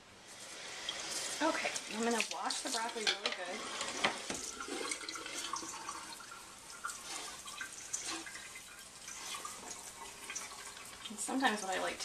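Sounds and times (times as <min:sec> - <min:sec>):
water spraying into metal colander: 0:00.2 - 0:12.0
hand turning wet vegetables: 0:00.4 - 0:12.0.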